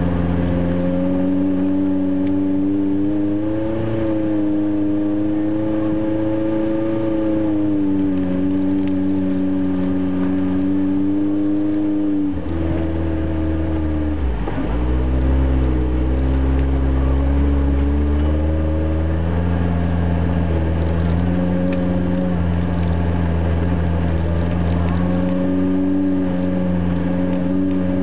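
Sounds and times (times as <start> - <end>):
engine pulling through snow: 0.0 - 28.0.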